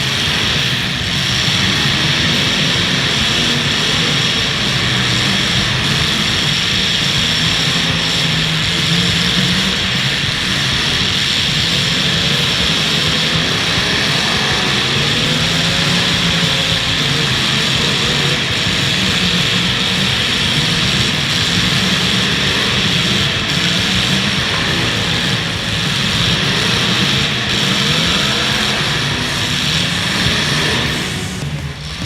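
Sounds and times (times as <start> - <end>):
car engines running hard: 0.0 - 32.0.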